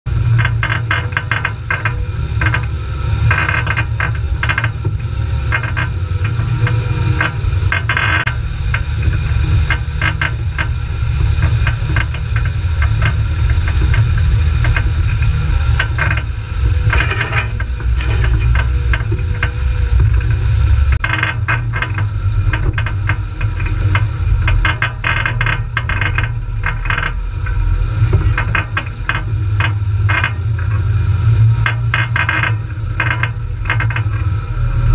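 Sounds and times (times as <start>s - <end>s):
car engine rumbling: 0.0s - 34.9s
vehicle body rattling: 0.1s - 34.9s.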